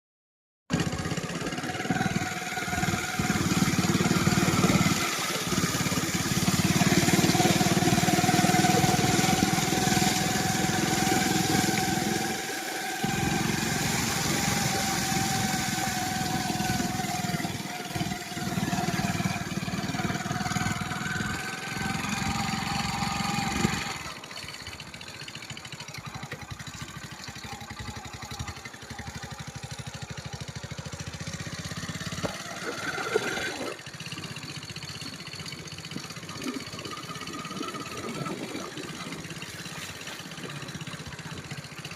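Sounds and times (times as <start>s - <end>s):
engine droning: 0.7s - 41.9s.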